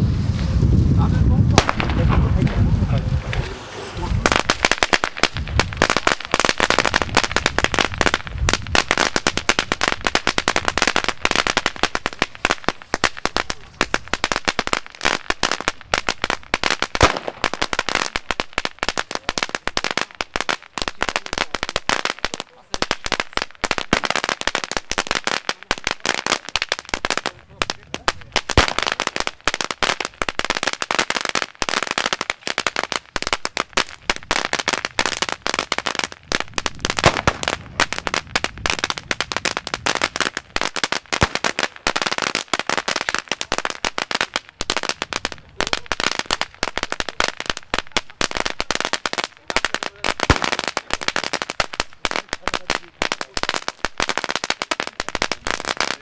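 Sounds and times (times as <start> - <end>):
firecrackers going off: 0.0 - 56.0.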